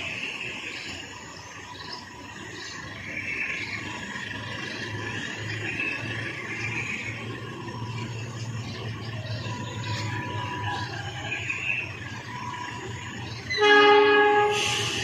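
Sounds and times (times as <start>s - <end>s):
diesel locomotive engine humming: 0.0s - 15.0s
insects chirping: 0.0s - 15.0s.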